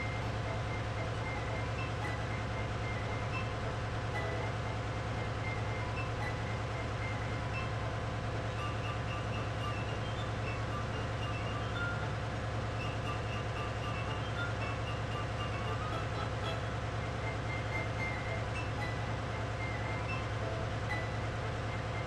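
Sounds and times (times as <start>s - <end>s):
low pulsing diesel drone: 0.0s - 22.0s.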